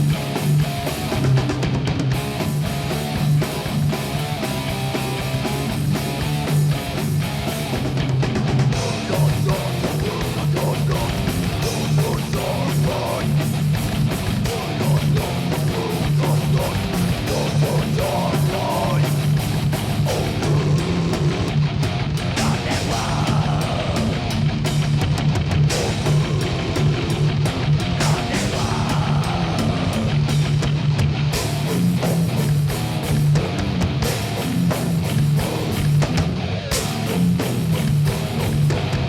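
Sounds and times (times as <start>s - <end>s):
rock music with guitars and drums: 0.0s - 39.0s.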